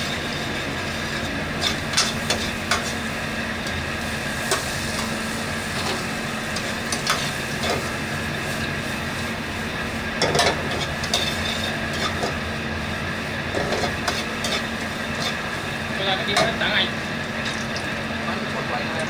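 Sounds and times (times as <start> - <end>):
food stir-frying in wok: 0.0 - 19.0
kitchen roar: 0.0 - 19.0.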